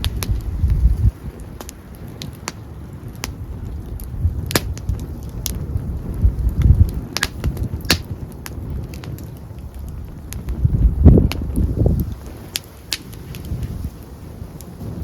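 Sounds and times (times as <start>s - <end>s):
campfire crackling and popping: 0.0s - 15.0s
low rumble of wind: 0.0s - 15.0s.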